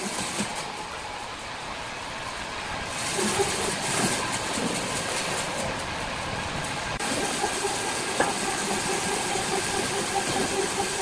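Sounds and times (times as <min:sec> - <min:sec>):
sawmill machinery drone: 0:00.0 - 0:11.0.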